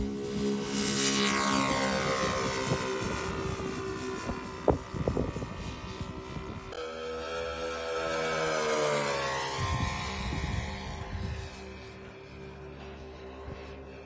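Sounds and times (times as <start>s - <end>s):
model plane engines passing by: 0.0s - 14.0s.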